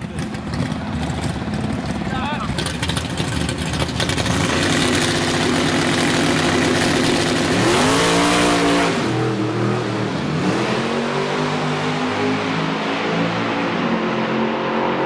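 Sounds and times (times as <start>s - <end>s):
drag car engine revving: 0.0s - 15.0s.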